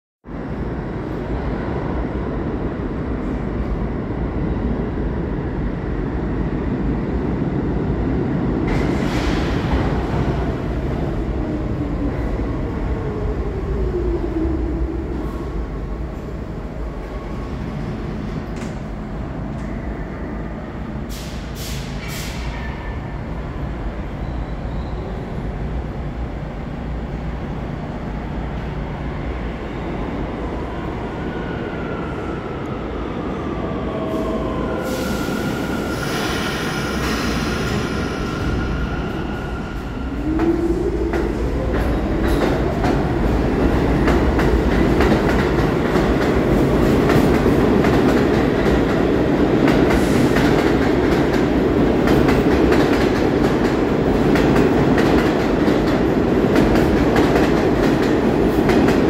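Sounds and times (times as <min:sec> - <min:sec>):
train wheels rumbling on rails: 0:00.6 - 0:59.0.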